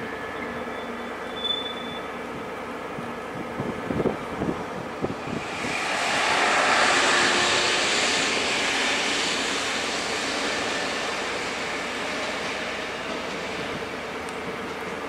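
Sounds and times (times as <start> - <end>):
diesel train engine rushing: 0.0 - 15.0.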